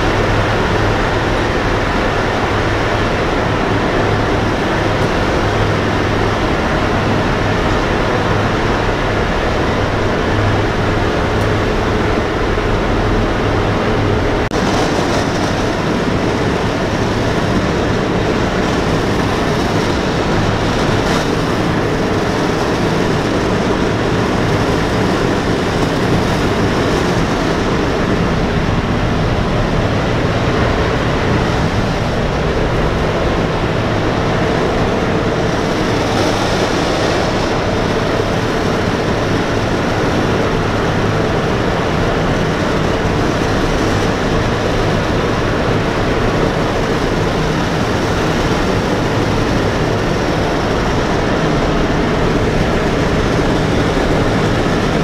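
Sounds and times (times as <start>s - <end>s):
aircraft radial engines droning: 0.0s - 55.0s
rush of air: 0.0s - 55.0s.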